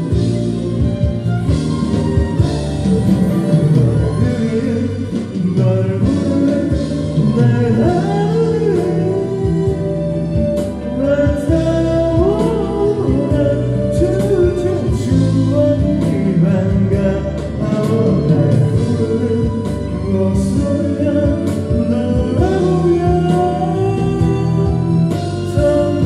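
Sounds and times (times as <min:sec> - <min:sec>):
pop ballad backing track: 0:00.0 - 0:26.0
person singing into microphone: 0:02.3 - 0:26.0.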